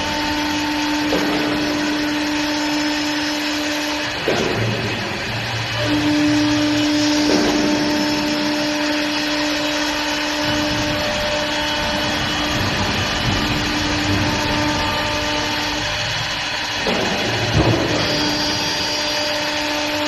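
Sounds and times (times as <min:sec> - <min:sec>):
lathe motor whine: 0:00.0 - 0:20.0
rushing noise: 0:00.0 - 0:20.0.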